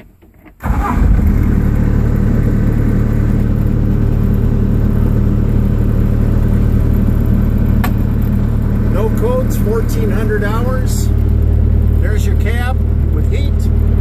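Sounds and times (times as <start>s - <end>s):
diesel engine running: 0.6s - 14.0s.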